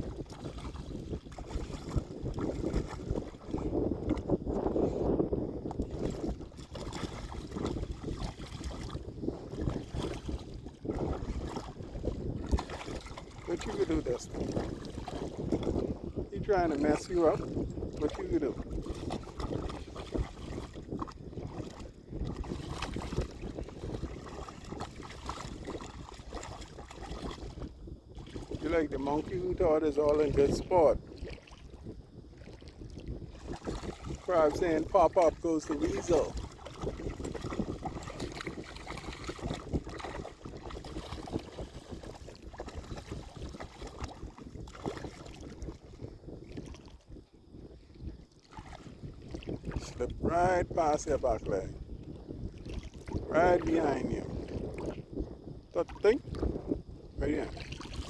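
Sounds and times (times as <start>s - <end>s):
water sloshing and splashing: 0.0s - 47.1s, 48.2s - 55.1s, 55.7s - 58.0s
wind buffeting microphone: 0.0s - 58.0s.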